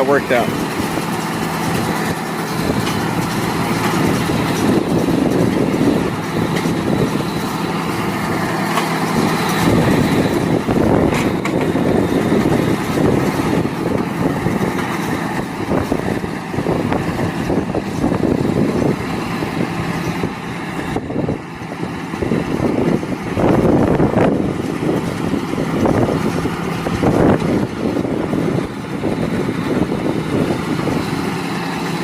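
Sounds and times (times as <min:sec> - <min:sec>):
baler mechanical clatter: 0:00.0 - 0:32.0
diesel tractor engine running: 0:00.0 - 0:32.0.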